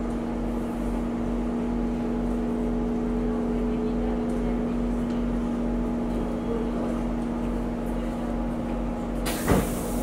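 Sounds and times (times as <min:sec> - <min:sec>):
train carriage hum and rumble: 0:00.0 - 0:10.0.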